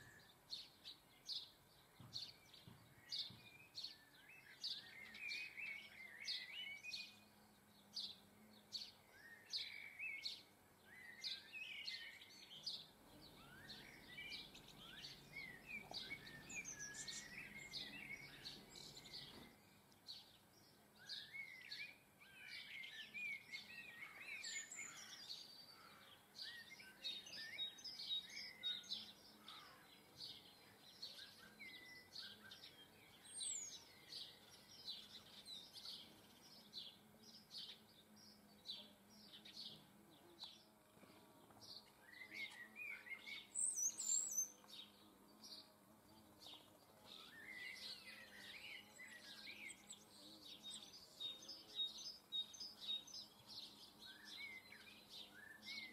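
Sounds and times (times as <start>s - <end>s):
birds chirping and twittering: 0.0s - 55.9s.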